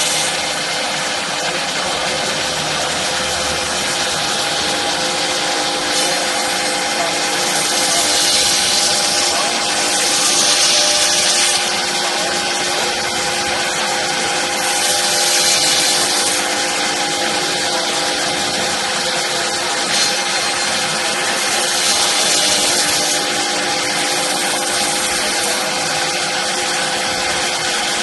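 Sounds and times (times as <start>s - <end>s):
cnc router whining: 0.0s - 28.0s
router bits cutting hiss: 0.0s - 28.0s.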